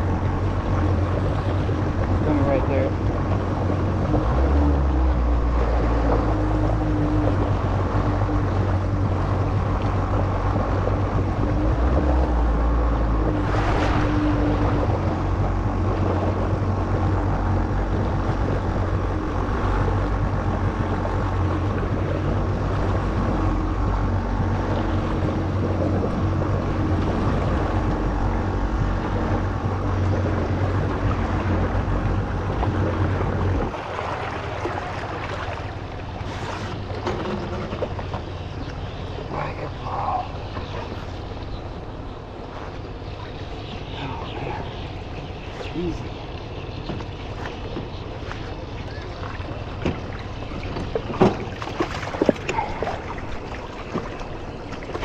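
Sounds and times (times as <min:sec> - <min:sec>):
jet ski engine running: 0:00.0 - 0:55.0
water rushing: 0:00.0 - 0:55.0.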